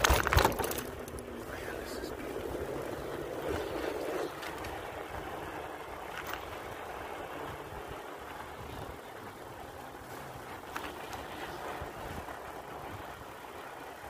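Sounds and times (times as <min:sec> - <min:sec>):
bike rolling on wooden dock: 0:00.0 - 0:14.0.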